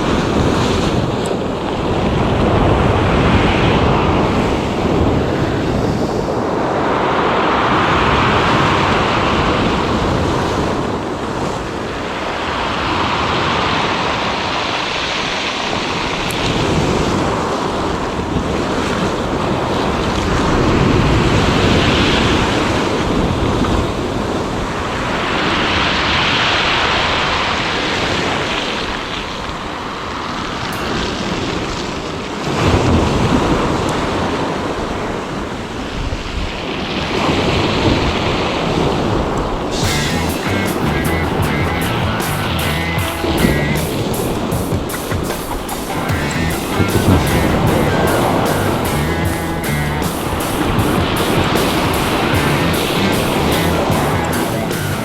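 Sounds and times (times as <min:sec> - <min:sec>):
sea waves washing ashore: 0:00.0 - 0:55.0.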